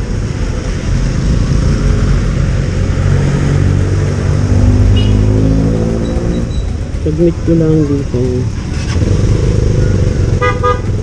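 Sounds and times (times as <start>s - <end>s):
street traffic: 0.0s - 11.0s
vehicle engine running: 0.0s - 11.0s.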